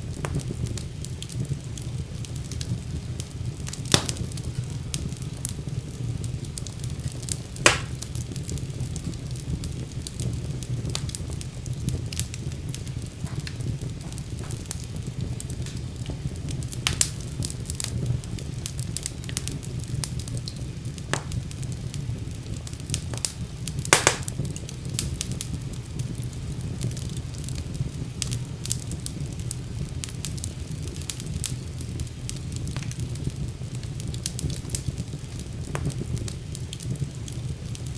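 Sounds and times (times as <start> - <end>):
fire crackling and rumbling: 0.0 - 37.9
fire popping: 0.0 - 37.9.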